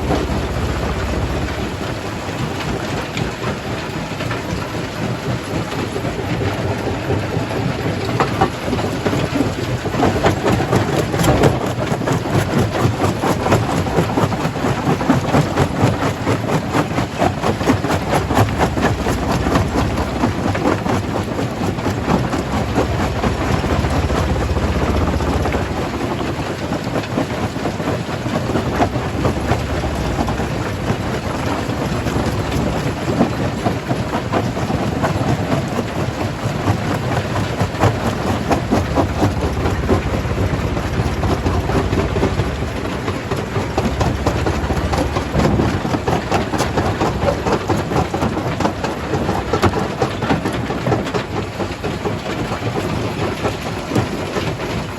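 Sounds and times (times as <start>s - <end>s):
rock crusher rumbling: 0.0s - 54.9s.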